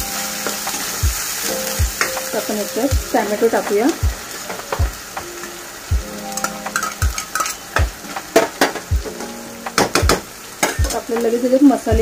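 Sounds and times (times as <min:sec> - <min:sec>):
paste sizzling in oil: 0:00.0 - 0:11.9.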